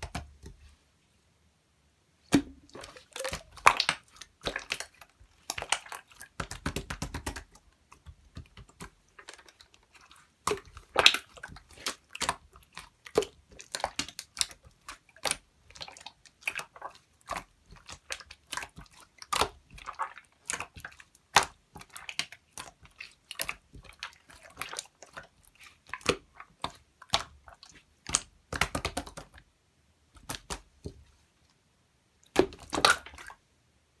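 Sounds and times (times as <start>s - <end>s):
slime squished by hand: 2.3s - 29.4s, 32.3s - 33.4s.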